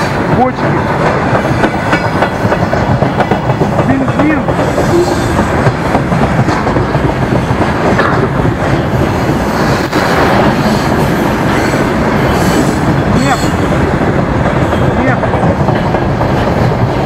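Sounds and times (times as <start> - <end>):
freight train rolling past: 0.0 - 17.0
wheels clattering over rail joints: 0.0 - 17.0.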